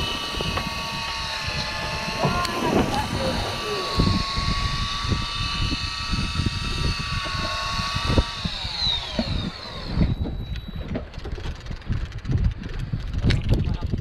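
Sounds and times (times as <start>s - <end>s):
fishing reel motor whining: 0.0s - 14.0s
wind rumble on microphone: 0.0s - 14.0s.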